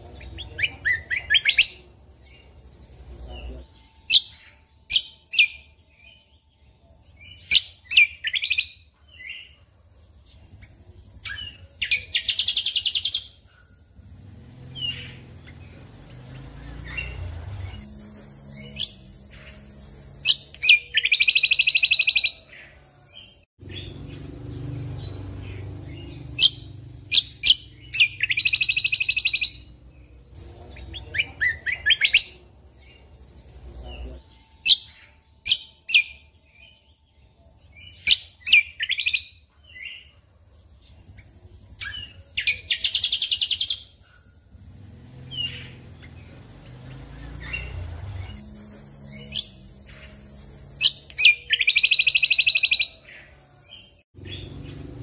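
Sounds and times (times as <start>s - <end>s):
songbird singing with trills: 0.0s - 55.0s.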